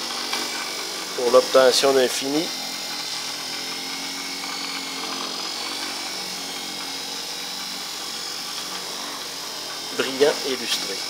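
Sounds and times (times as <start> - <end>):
electric polisher whirring: 0.0 - 11.0.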